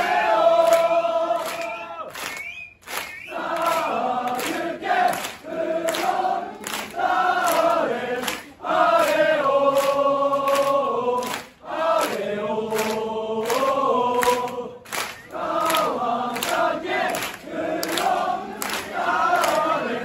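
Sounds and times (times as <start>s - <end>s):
crowd singing a chant: 0.0s - 2.1s, 3.3s - 20.0s
rhythmic hand-clapping: 0.0s - 20.0s.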